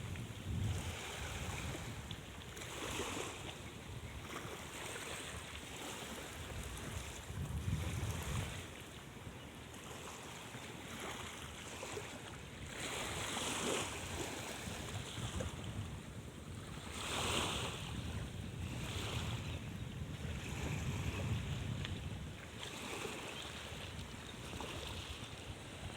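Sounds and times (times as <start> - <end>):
water washing in waves: 0.0 - 8.9, 9.8 - 15.9, 16.5 - 25.9
wind on microphone: 0.0 - 8.9, 11.2 - 25.9.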